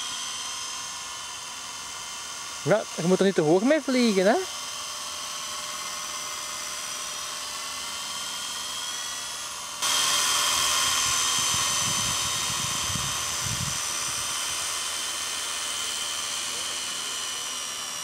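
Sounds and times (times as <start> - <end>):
model helicopter whine: 0.0 - 18.0.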